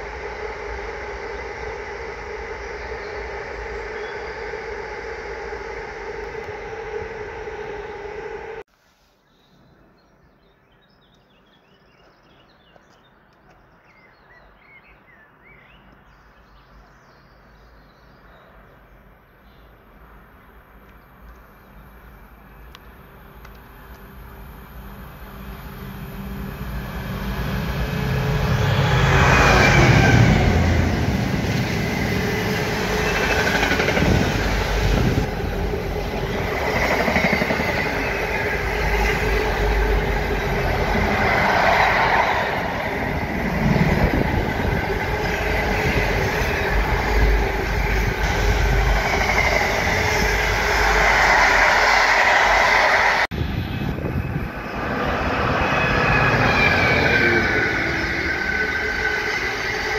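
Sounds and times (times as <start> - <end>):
freight train passing: 0.0 - 8.6, 19.8 - 59.9.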